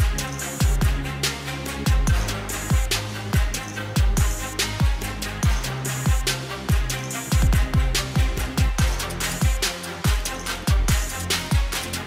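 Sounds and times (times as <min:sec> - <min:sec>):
deep kick drum: 0:00.0 - 0:01.1, 0:01.9 - 0:11.8
background music with beat: 0:00.0 - 0:12.0.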